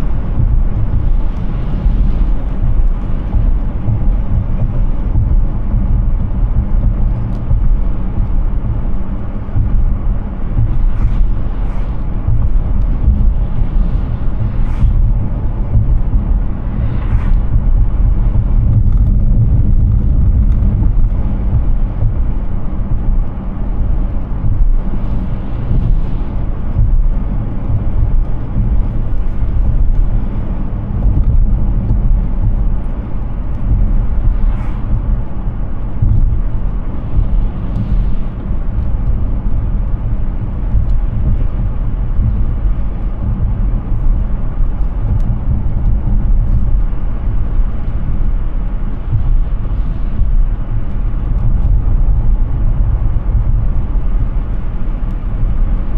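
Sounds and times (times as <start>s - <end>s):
road rumble and tyre noise: 0.0s - 55.9s.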